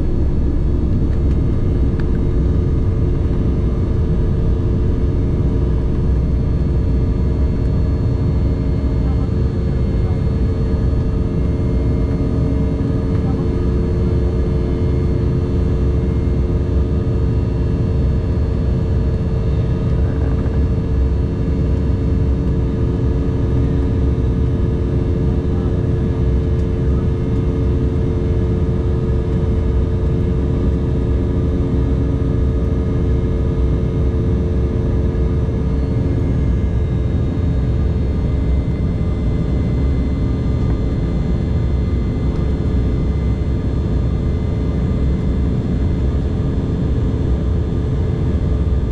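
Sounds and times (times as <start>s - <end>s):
jet cabin rumble: 0.0s - 48.9s.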